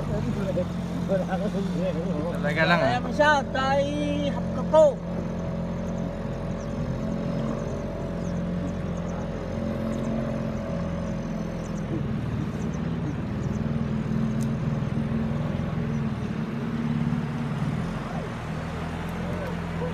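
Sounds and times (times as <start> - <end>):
motorboat engine running: 0.0 - 19.9.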